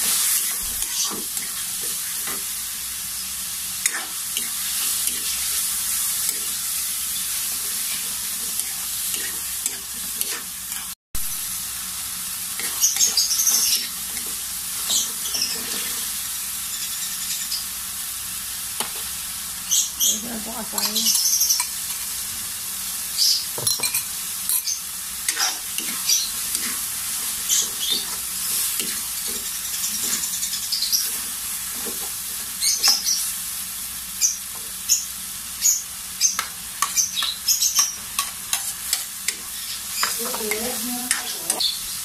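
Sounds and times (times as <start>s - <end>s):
food sizzling in a wok: 0.0s - 42.0s.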